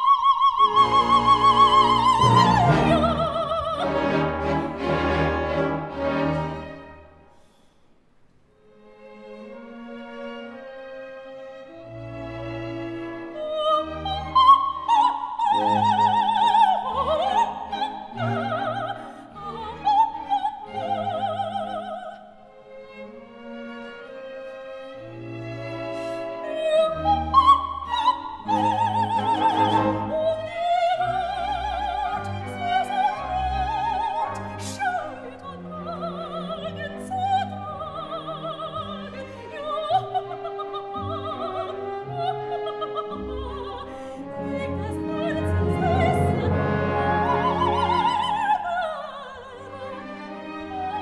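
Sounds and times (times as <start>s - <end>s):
operatic singing with orchestra: 0.0s - 6.8s, 13.0s - 22.4s, 25.6s - 51.0s.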